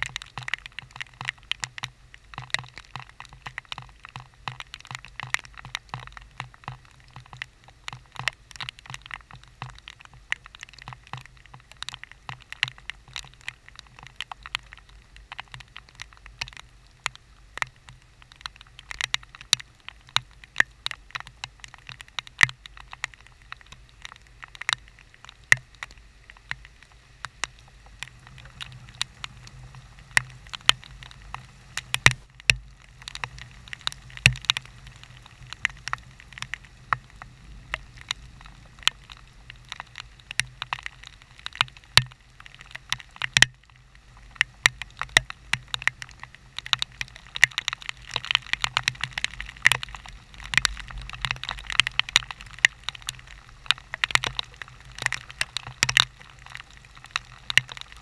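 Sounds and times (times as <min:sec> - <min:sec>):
raindrops ticking on camera: 0:00.0 - 0:58.0.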